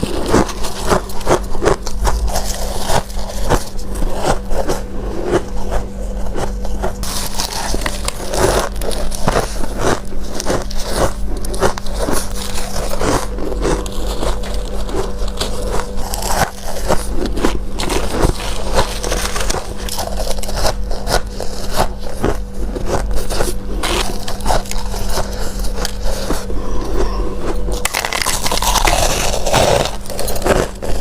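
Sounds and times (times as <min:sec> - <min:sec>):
chewing crunchy ice frost: 0:00.0 - 0:31.0
steady low hum: 0:00.0 - 0:31.0.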